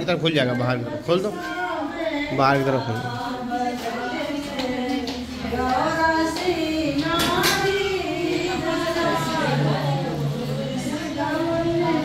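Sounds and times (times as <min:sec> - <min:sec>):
high voices singing: 0:00.0 - 0:12.0.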